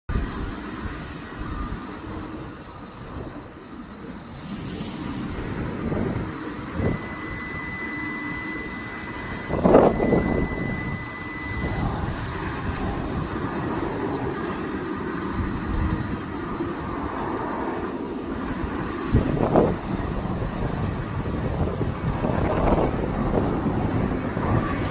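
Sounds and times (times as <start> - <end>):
jet engines rushing: 0.1 - 24.9
thin high whine: 0.1 - 24.9.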